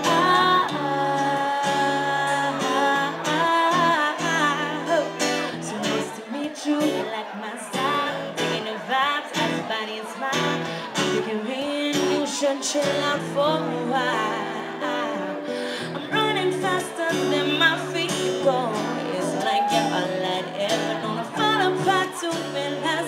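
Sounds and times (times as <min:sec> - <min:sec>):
strummed acoustic guitar: 0:00.0 - 0:23.0
woman singing: 0:00.0 - 0:23.0.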